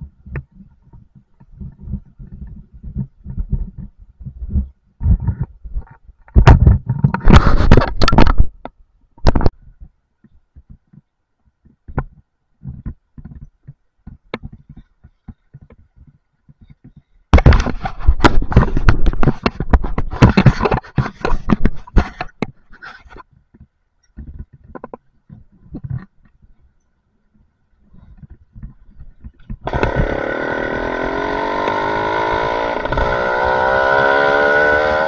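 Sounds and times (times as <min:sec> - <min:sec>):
wind on microphone: 0:00.0 - 0:11.1, 0:11.7 - 0:35.0.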